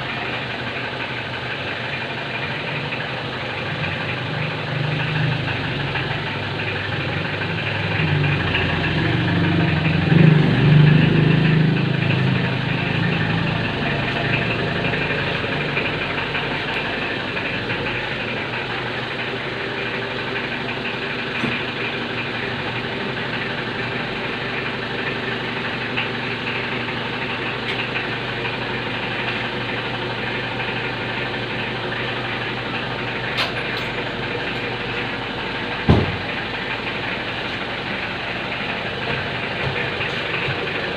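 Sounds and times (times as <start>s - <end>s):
engine knocking: 0.0s - 40.9s.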